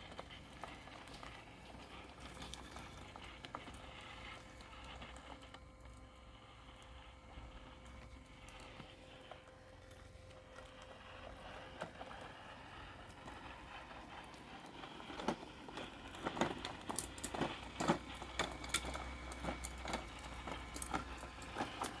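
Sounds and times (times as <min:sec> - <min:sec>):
robotic lawn mower humming: 0:00.0 - 0:22.0.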